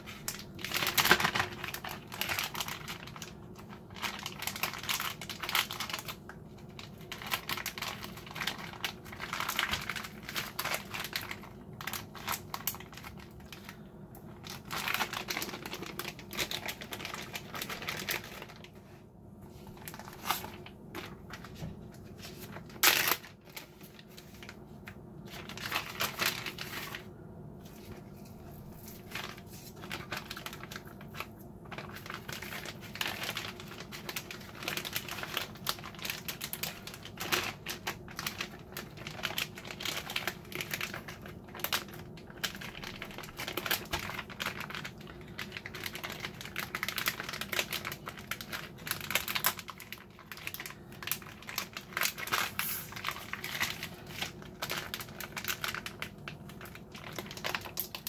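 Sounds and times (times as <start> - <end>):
plastic bag crinkling: 0.0 - 58.0.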